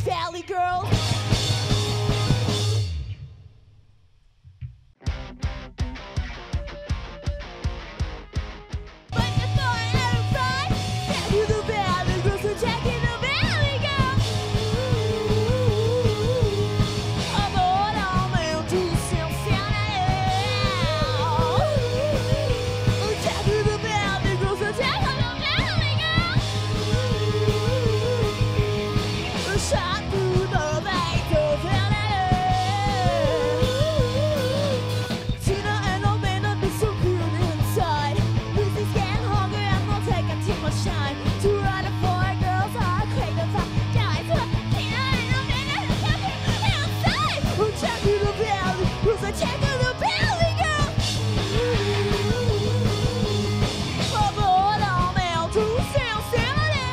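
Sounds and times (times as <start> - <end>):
punk rock band playing: 0.0 - 3.8, 5.0 - 56.9
bass guitar: 0.0 - 56.9
drums: 0.0 - 56.9
electric guitar: 0.6 - 3.5, 5.0 - 56.9
person singing: 9.2 - 56.9.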